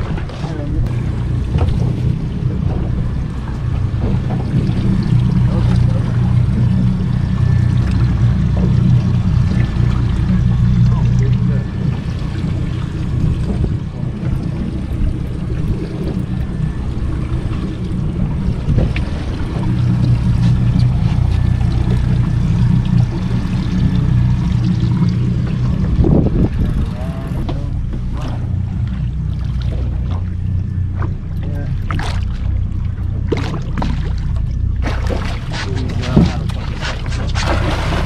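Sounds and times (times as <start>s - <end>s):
boat engine humming: 0.0s - 38.0s
water noise: 0.0s - 38.0s
wind: 0.0s - 38.0s.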